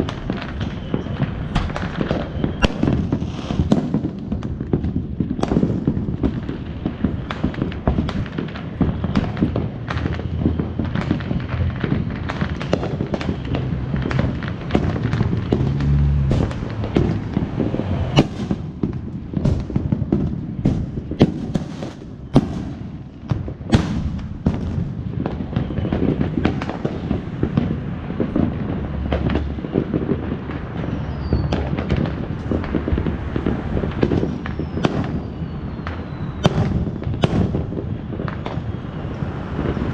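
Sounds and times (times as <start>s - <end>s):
fireworks popping and cracking: 0.0s - 39.9s
heavy firework bangs: 0.0s - 39.9s.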